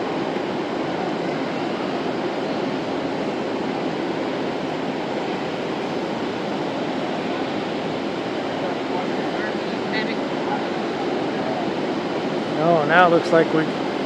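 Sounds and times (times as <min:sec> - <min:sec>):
rain hitting a roof: 0:00.0 - 0:14.0.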